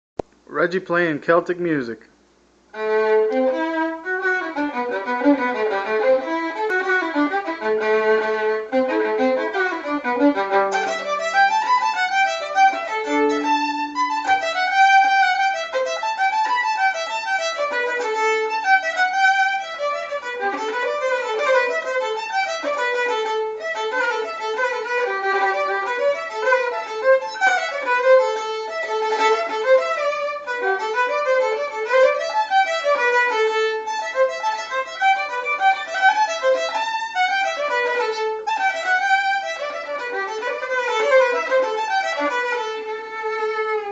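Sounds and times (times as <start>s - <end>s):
solo fiddle tune: 2.7s - 43.9s.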